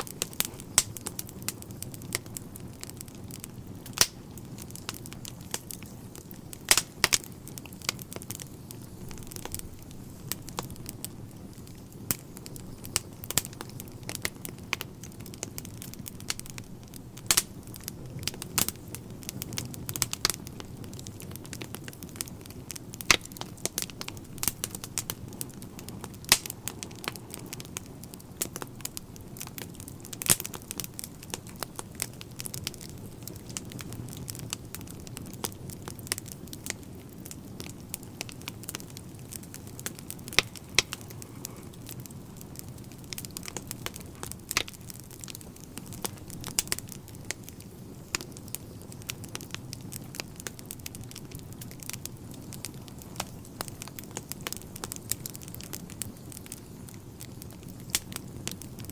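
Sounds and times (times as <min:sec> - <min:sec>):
fire low rumble: 0:00.0 - 0:58.9
logs crackling and popping: 0:00.0 - 0:58.9.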